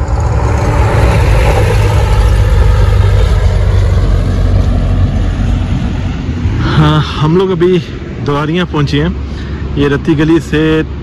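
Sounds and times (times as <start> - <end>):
rushing noise: 0.0 - 11.0.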